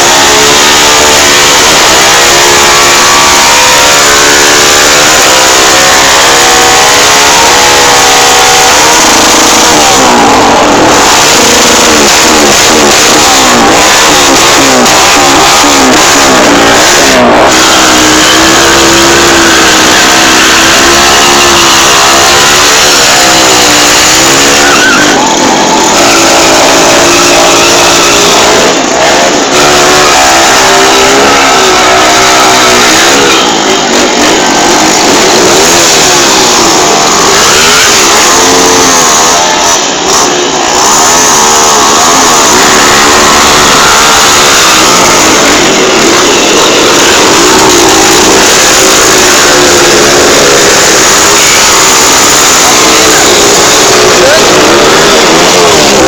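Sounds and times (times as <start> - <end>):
engine revving: 0.0 - 56.0
tyre squealing: 0.0 - 56.0.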